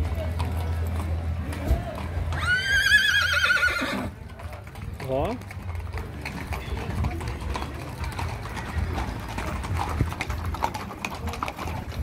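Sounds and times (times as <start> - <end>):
horse hooves clip-clopping on dirt: 0.0 - 12.0.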